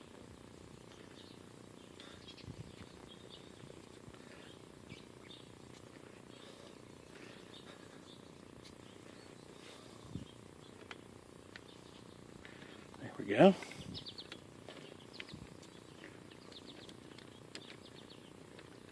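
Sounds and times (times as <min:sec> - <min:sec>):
faint bird chirps: 0:00.8 - 0:18.9.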